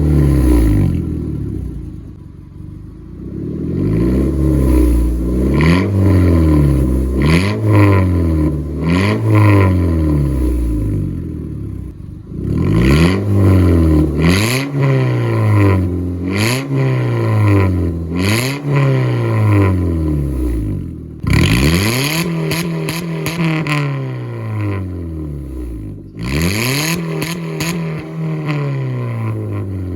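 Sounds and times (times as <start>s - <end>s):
car engine revving: 0.0s - 29.9s.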